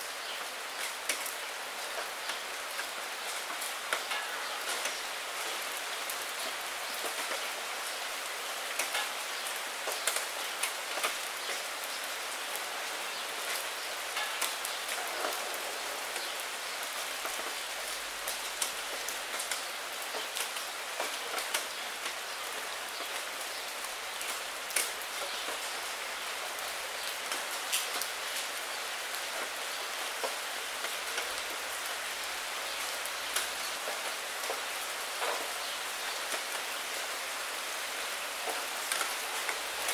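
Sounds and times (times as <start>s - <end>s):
rain falling on puddle and leaves: 0.0s - 39.9s.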